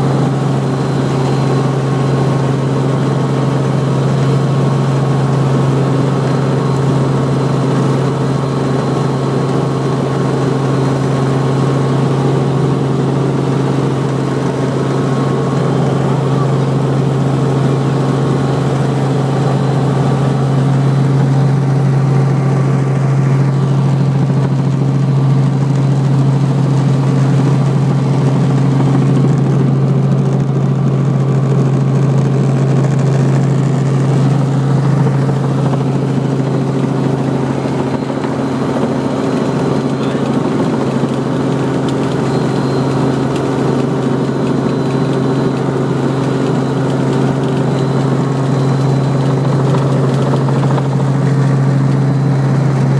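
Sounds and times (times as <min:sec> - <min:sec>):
helicopter engine and rotor droning: 0:00.0 - 0:52.9.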